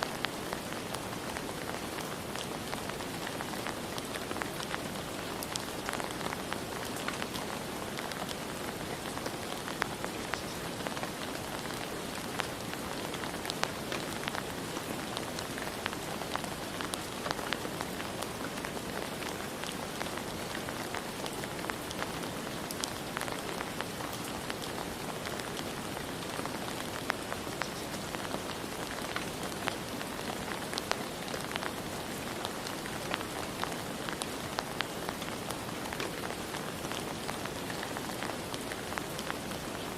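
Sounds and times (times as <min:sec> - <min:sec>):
steady rain with dripping: 0:00.0 - 0:39.9.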